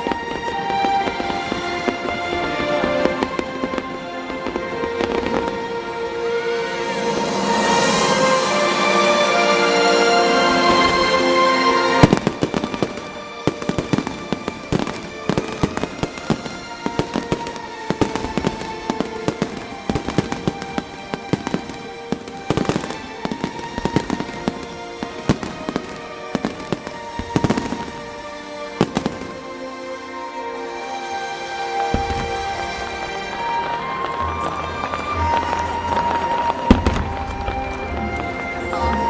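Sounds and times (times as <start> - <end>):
fireworks bangs and crackles: 0.0 - 39.0
music playing: 0.0 - 39.0.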